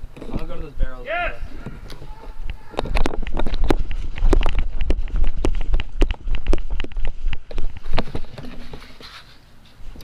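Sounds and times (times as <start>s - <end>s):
wind rumble on microphone: 0.0s - 8.8s.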